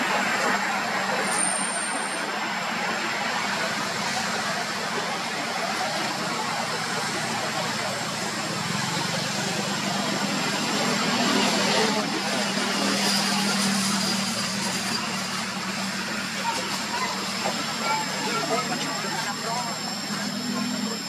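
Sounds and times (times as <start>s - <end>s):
vehicle engine noise: 0.0s - 21.0s.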